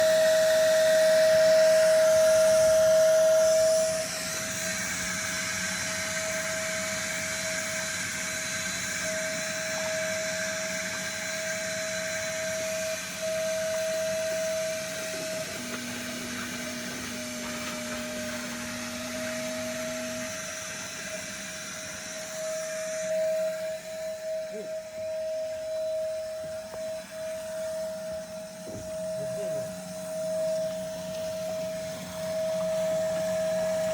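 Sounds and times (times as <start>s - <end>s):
low hum: 0.0s - 7.9s, 8.8s - 33.9s
vacuum cleaner running: 0.0s - 33.9s.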